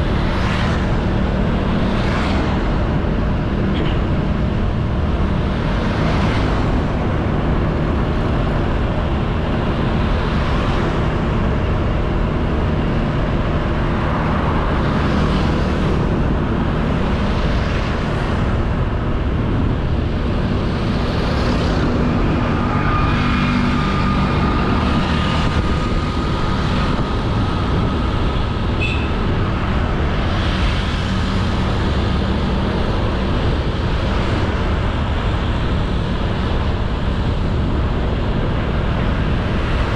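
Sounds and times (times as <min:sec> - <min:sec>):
passing traffic whooshes: 0:00.0 - 0:39.9
wind rushing on microphone: 0:00.0 - 0:39.9.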